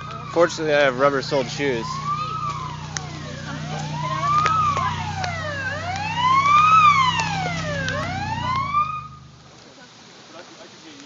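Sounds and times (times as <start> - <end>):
police siren wailing: 0.0 - 9.4.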